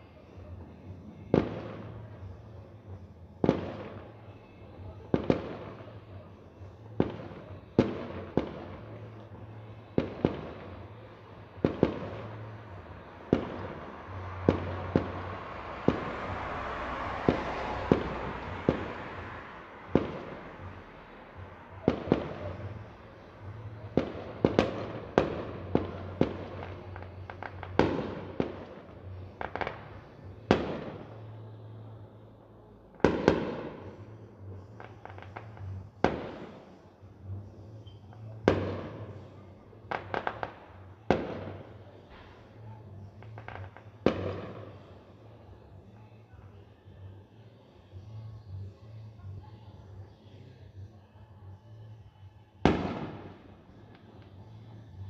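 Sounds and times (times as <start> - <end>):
fireworks crackling and hissing: 0.0 - 55.0
fireworks bursting with bangs: 0.2 - 32.0, 32.9 - 46.6, 52.6 - 55.0.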